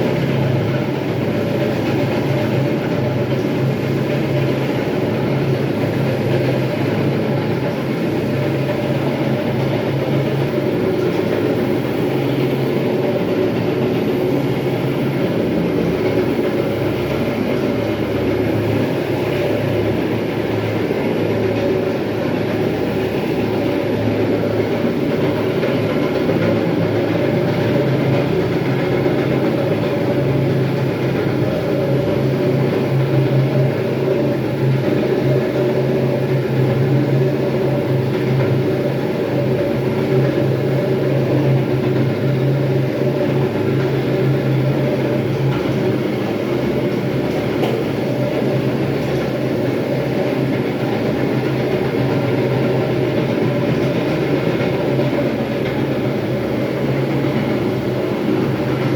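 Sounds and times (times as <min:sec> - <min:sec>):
floor grinder motor hum: 0:00.0 - 0:58.9.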